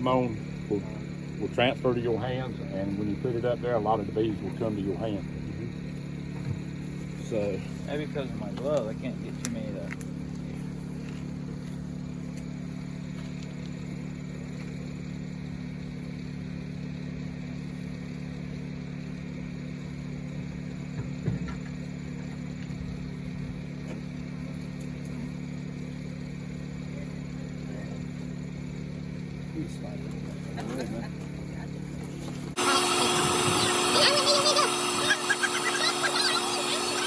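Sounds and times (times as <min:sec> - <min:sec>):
engine humming steadily: 0:00.0 - 0:37.0.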